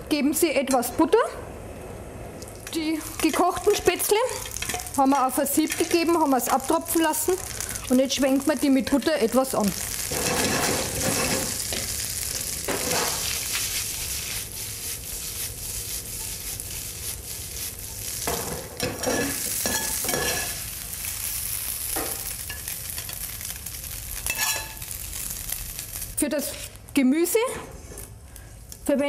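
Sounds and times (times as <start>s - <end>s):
food sizzling in a frying pan: 2.4s - 27.4s.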